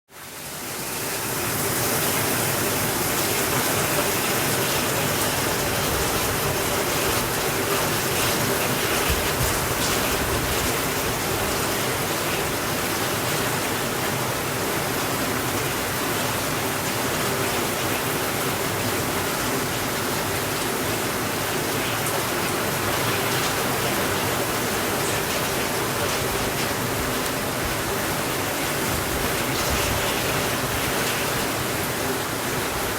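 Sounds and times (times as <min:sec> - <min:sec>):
steady rainfall hiss: 0:00.1 - 0:32.9.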